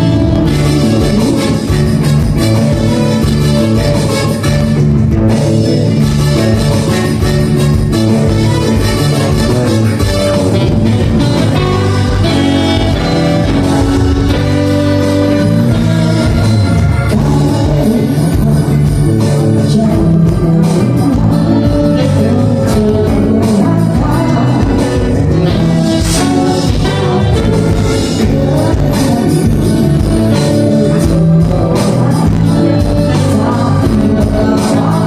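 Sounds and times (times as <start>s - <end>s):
live band playing: 0.0s - 35.0s
person singing: 0.0s - 35.0s.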